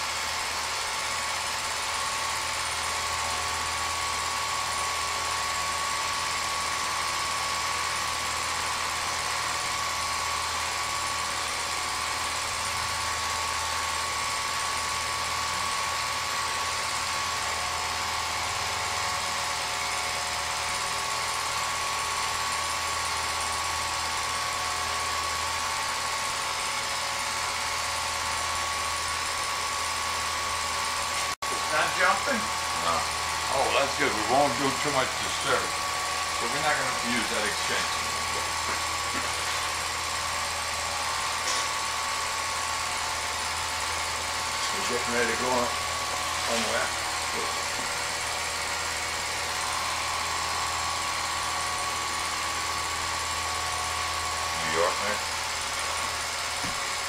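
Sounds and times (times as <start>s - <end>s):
film projector motor whirring: 0.0s - 57.0s.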